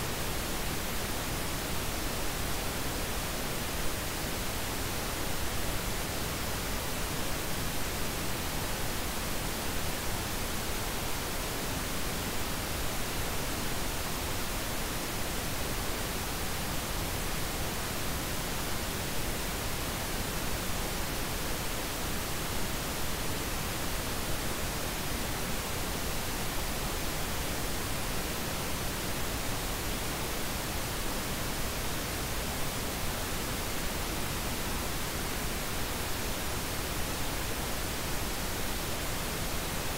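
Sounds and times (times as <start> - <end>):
steady broadband noise hiss: 0.0 - 39.9.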